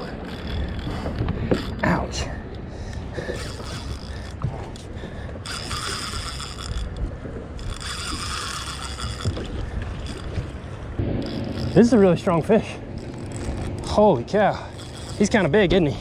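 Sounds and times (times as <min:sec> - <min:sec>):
fishing reel whirring: 0:00.0 - 0:01.9, 0:02.9 - 0:16.0
steady low rumble: 0:00.0 - 0:16.0.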